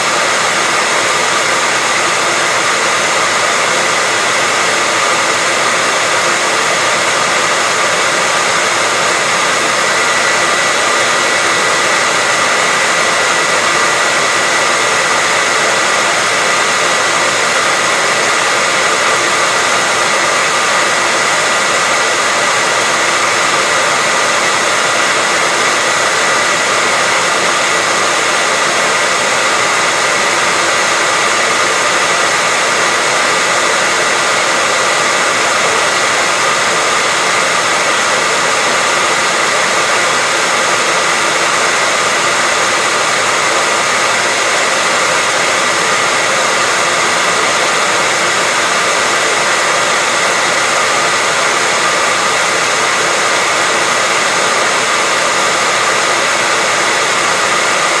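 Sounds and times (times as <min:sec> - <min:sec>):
hairdryer running: 0:00.0 - 0:58.0.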